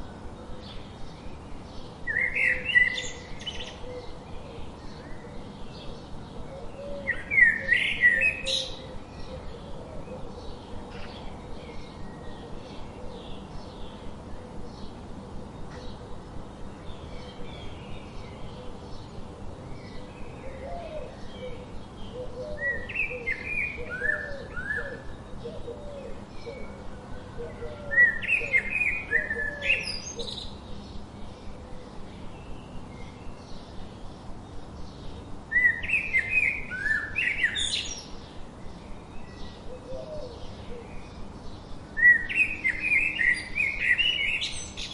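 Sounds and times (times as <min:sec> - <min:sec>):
birds singing and chirping: 0:00.0 - 0:44.9.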